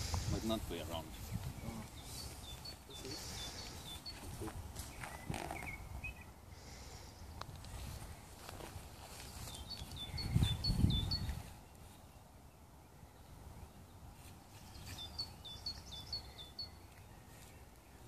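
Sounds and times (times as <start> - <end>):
outdoor background noise: 0.0 - 18.0
bird singing: 0.4 - 14.0, 14.6 - 18.0.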